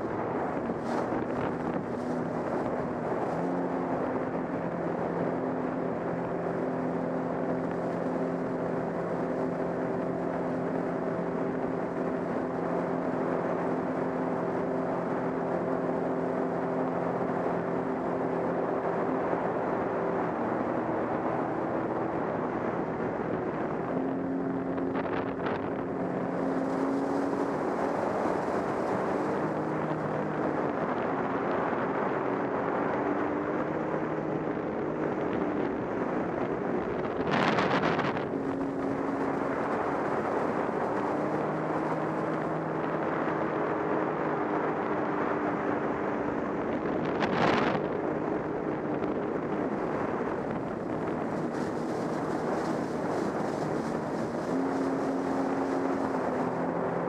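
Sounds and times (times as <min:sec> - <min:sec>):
personal watercraft engine droning: 0:00.0 - 0:57.0
wind on microphone: 0:00.0 - 0:57.0.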